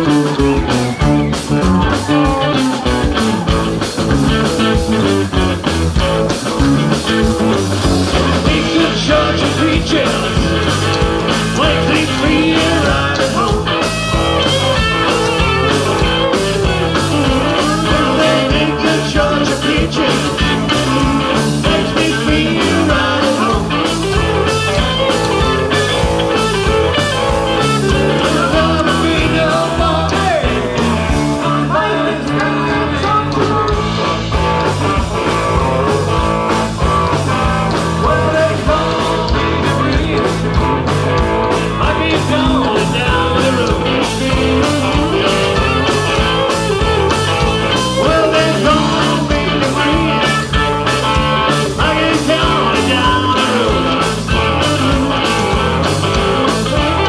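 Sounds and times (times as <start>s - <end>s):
drum kit steady beat: 0.0s - 57.0s
electric guitars: 0.0s - 57.0s.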